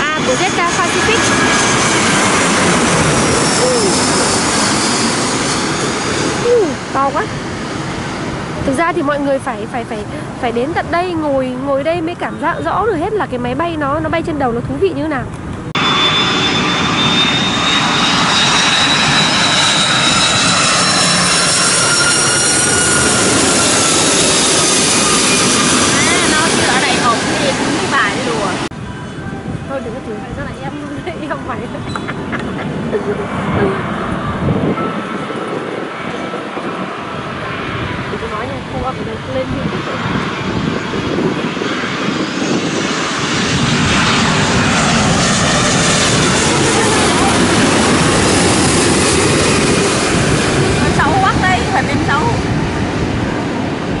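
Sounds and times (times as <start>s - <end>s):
jet engines rumbling overhead: 0.0s - 54.0s.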